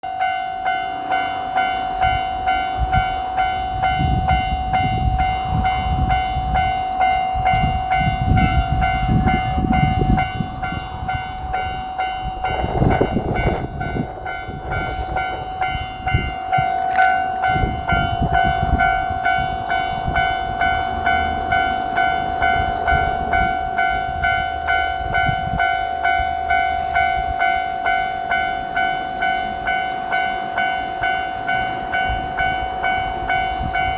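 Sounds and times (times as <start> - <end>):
diesel railcar engine: 0.0 - 33.9
railroad crossing bell clanging: 0.0 - 33.9
train wheel clatter: 0.2 - 33.9.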